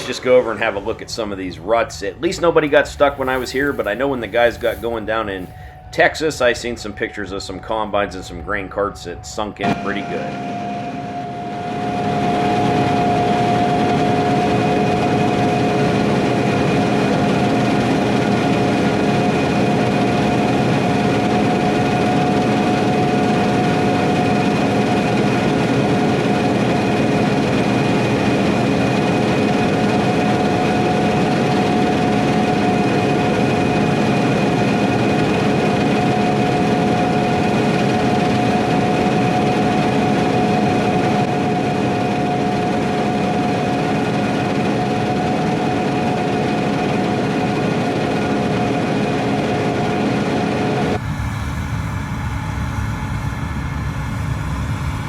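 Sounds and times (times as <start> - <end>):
constant whining tones: 0.0 - 55.0
diesel machinery running: 0.0 - 55.0.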